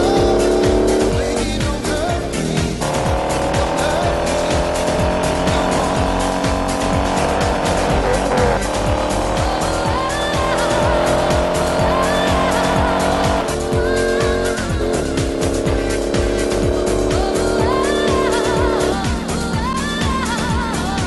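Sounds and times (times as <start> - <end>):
car engines revving high: 0.0 - 21.0
dance music with kick drum: 0.0 - 21.0.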